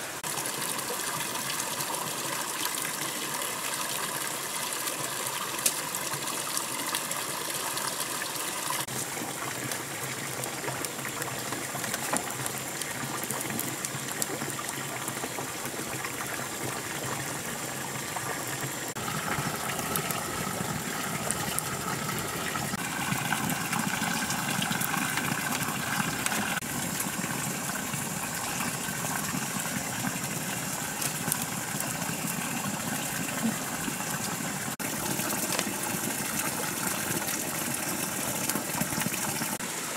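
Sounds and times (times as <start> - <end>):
water pouring into bathtub: 4.9 - 39.6.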